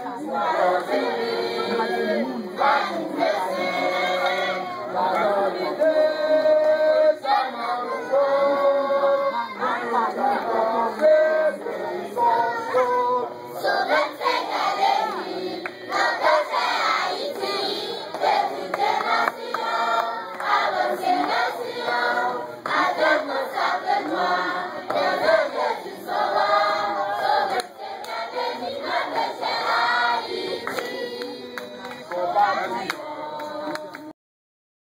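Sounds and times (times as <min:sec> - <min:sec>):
children singing together: 0:00.0 - 0:34.0
song leader's voice: 0:00.0 - 0:34.1.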